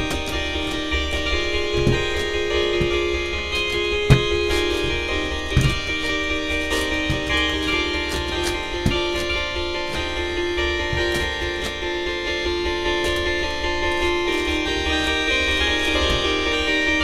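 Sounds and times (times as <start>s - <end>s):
guitar and keyboard music: 0.0s - 17.0s.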